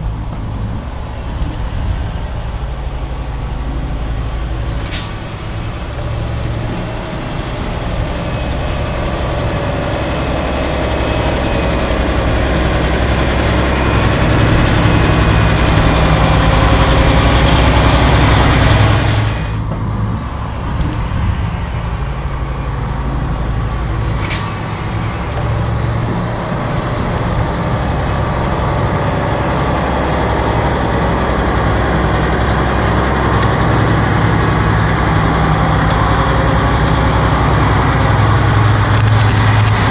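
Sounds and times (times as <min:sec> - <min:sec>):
diesel trucks passing: 0:00.0 - 0:39.9.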